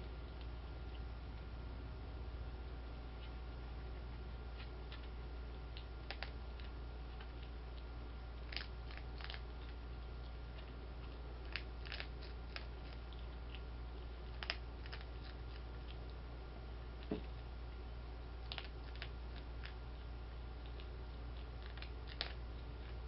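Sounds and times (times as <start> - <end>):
skunk crunching dry kibble: 0.0 - 23.0
steady low hum: 0.0 - 23.0.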